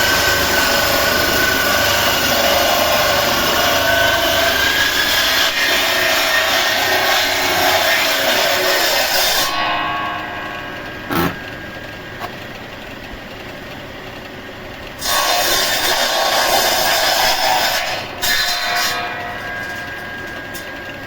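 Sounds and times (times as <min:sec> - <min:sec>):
sawmill saw cutting wood: 0:00.0 - 0:12.7, 0:14.9 - 0:21.0.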